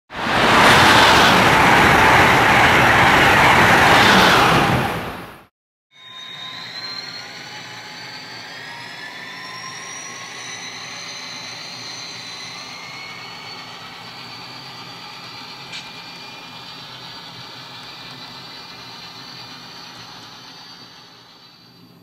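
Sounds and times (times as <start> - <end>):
model train running on track: 0.2 - 5.0, 6.0 - 22.0.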